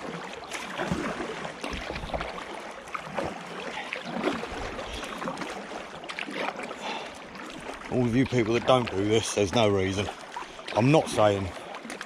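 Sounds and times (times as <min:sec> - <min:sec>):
canoe paddle splashing in water: 0:00.0 - 0:12.0.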